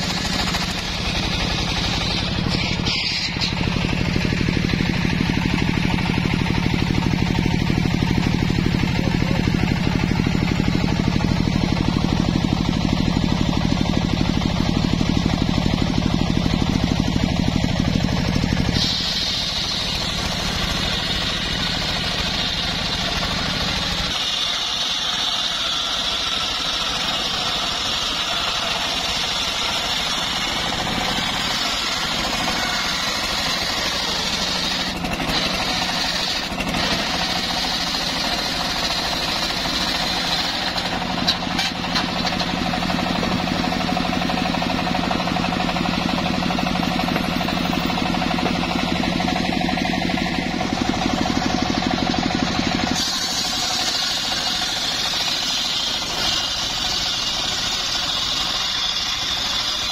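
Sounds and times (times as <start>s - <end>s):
circular saw cutting wood: 0.0s - 59.9s
engine running: 0.0s - 59.9s.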